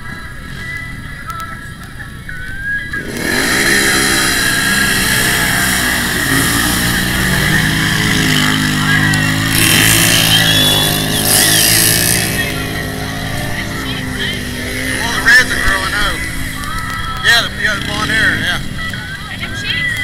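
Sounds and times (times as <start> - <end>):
atv engines revving hard: 2.9 - 20.0.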